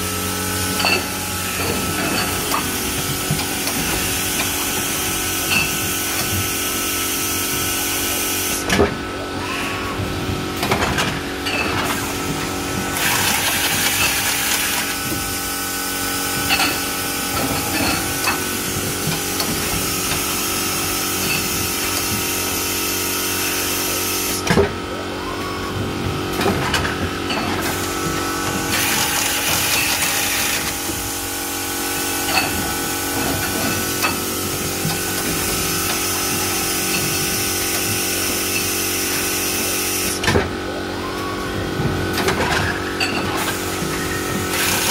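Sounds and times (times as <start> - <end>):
packing machine humming: 0.0 - 44.9.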